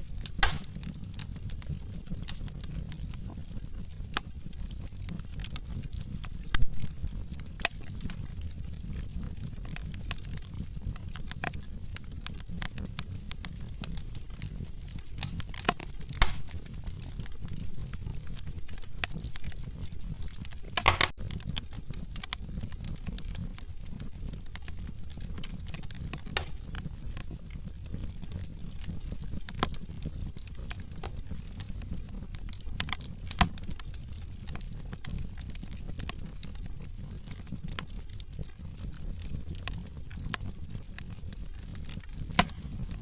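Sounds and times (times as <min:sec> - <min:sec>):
low rumble of flame: 0:00.0 - 0:43.0
sharp pops of burning wood: 0:00.0 - 0:43.0
wood logs crackling in fireplace: 0:00.0 - 0:43.0.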